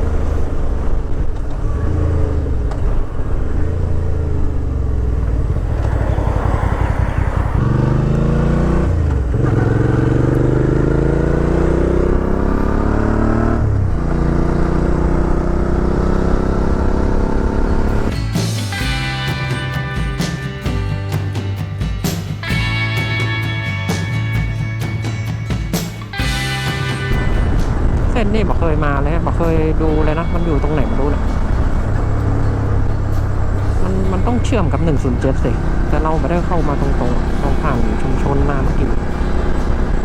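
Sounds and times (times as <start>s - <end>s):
motorcycle engine accelerating: 0.0s - 21.6s, 22.4s - 40.0s.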